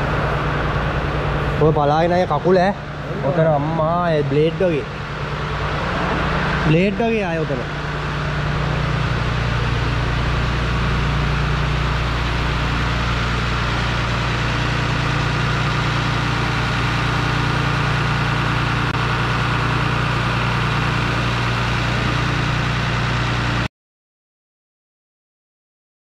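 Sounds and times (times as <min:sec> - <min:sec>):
crane engine idling: 0:00.0 - 0:23.7.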